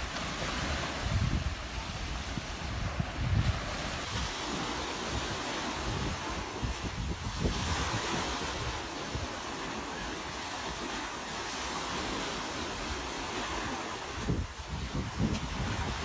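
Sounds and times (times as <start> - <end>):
ocean surf washing onto beach: 0.0 - 16.0
wind rumbling on microphone: 0.0 - 16.0.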